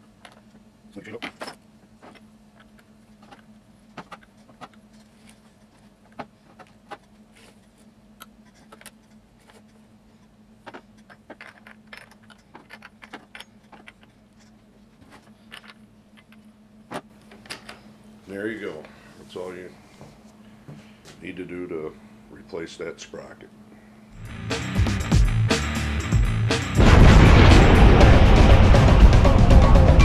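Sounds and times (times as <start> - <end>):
faint steady hum: 0.0 - 24.4.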